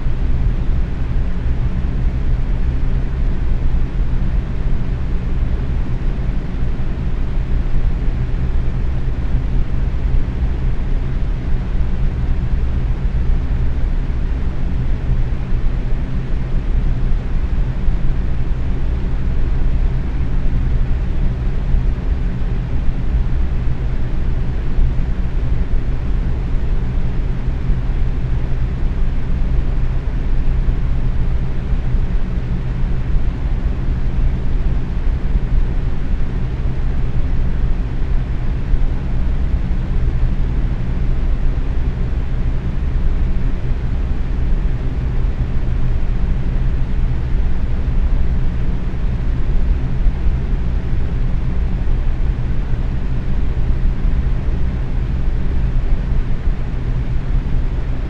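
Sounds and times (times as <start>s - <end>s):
low fan hum: 0.0s - 58.0s.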